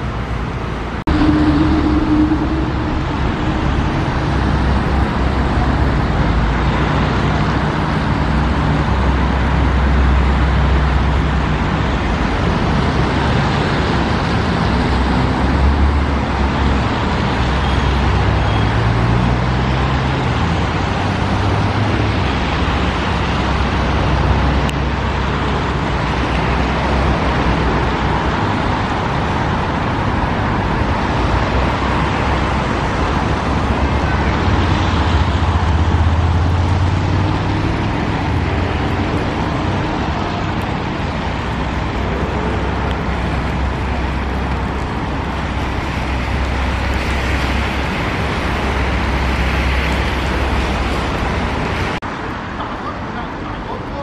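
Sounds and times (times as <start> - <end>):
heavy vehicle engine rumble: 0.0 - 54.0
passing cars: 0.0 - 54.0.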